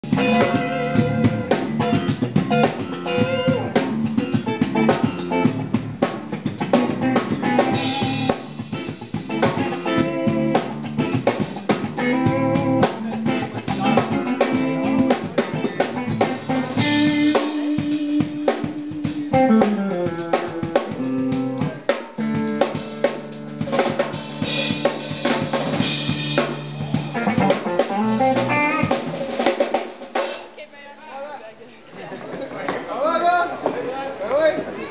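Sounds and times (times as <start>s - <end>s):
electric bass line: 0.0s - 29.2s
drum kit beat: 0.0s - 30.7s.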